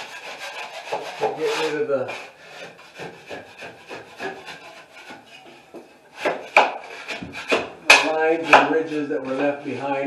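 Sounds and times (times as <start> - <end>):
drywall knife scraping: 0.0 - 10.0.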